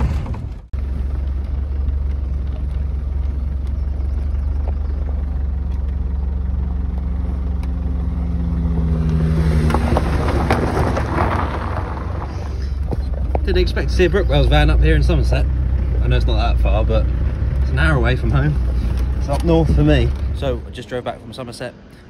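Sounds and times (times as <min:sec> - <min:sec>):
diesel engine drone: 0:00.0 - 0:22.0
road noise: 0:00.0 - 0:22.0.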